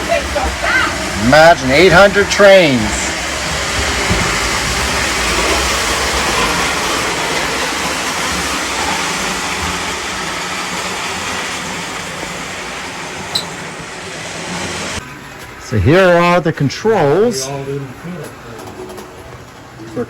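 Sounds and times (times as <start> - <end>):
model trains rolling on track: 0.0 - 20.0.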